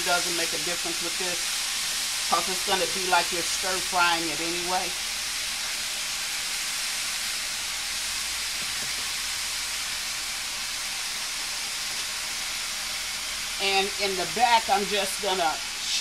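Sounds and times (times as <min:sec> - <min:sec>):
chicken sizzling in skillet: 0:00.0 - 0:16.0.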